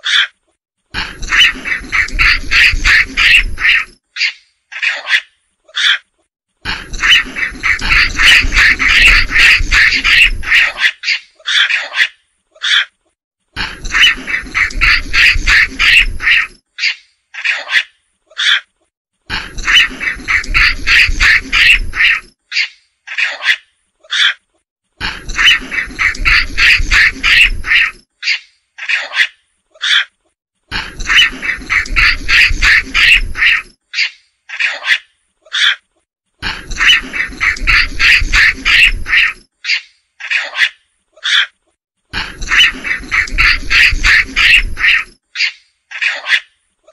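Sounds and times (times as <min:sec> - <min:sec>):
macaque calling: 0:00.0 - 0:00.4, 0:01.0 - 0:13.0, 0:13.6 - 0:18.7, 0:19.3 - 0:24.4, 0:25.0 - 0:30.1, 0:30.7 - 0:35.8, 0:36.4 - 0:46.5.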